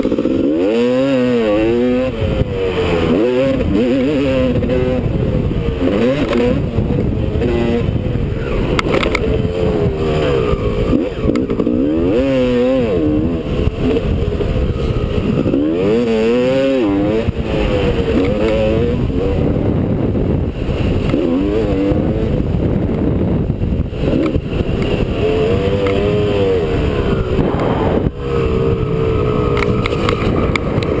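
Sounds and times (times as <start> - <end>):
motorbike engine revving: 0.0 - 31.0
wind buffeting on microphone: 2.0 - 31.0.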